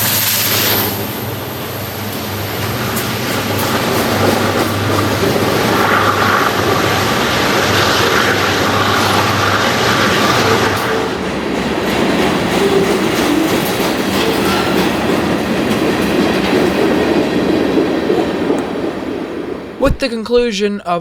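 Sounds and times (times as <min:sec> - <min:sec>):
diesel locomotive drone: 0:00.0 - 0:19.8
freight train rumbling past: 0:00.0 - 0:20.0.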